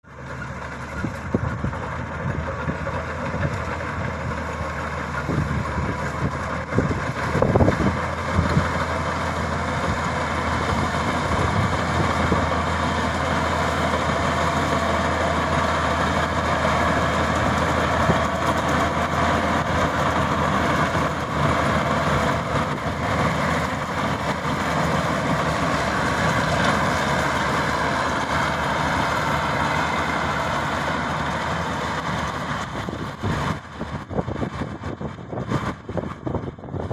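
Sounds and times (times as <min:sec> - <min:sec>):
combine harvester running: 0:00.0 - 0:36.9.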